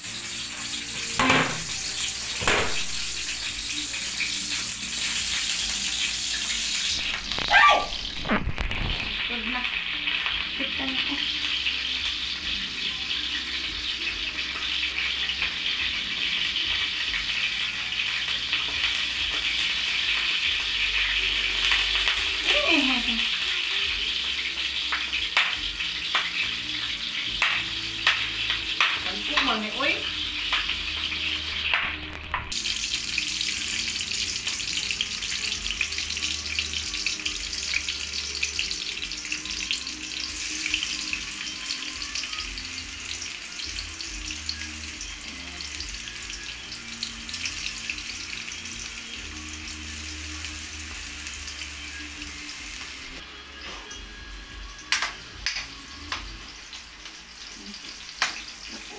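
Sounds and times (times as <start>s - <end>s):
onions sizzling in hot oil: 0.0s - 58.9s.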